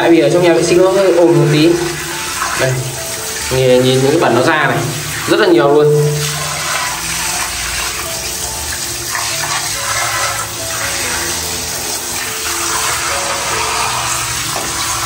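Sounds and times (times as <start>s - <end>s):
running water splashing: 0.0s - 15.0s.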